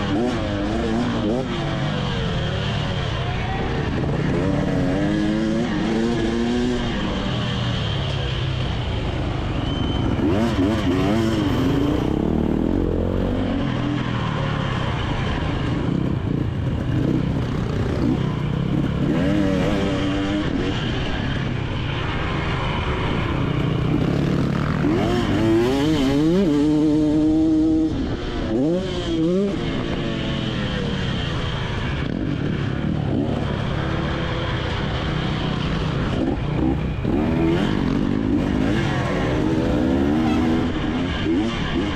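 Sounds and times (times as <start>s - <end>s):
two-stroke motorbike engine revving: 0.0s - 8.9s, 9.8s - 21.5s, 22.9s - 41.9s.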